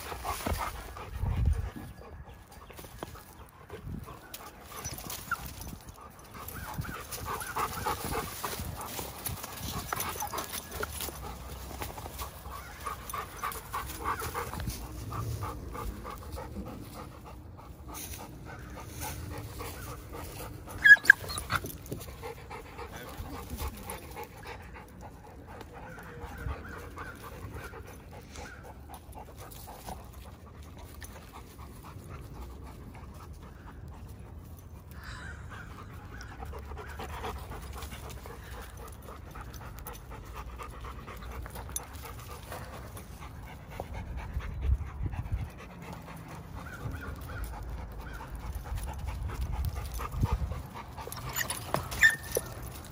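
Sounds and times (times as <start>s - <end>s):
dogs panting: 0.0s - 52.9s.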